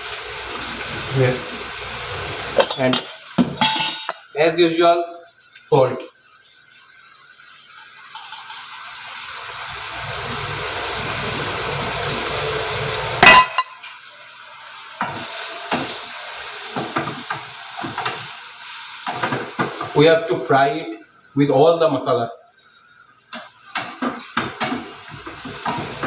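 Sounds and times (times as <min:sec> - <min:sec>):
food sizzling in hot oil: 0:00.0 - 0:21.9, 0:22.5 - 0:26.0.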